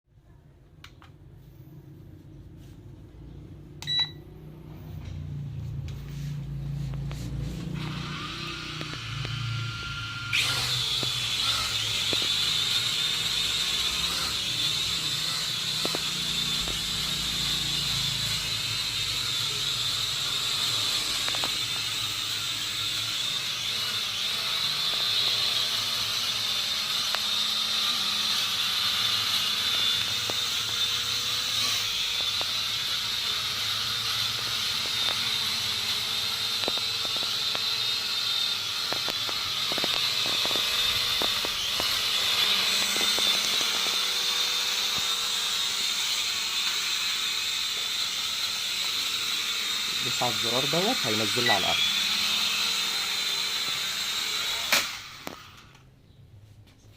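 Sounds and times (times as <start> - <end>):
toy drone buzzing: 7.0 - 55.8.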